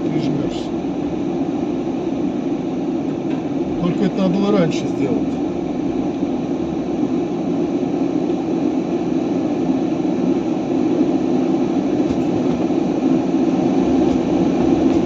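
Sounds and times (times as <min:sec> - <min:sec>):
truck diesel engine: 0:00.0 - 0:09.0, 0:11.5 - 0:15.0
road noise: 0:00.0 - 0:15.0.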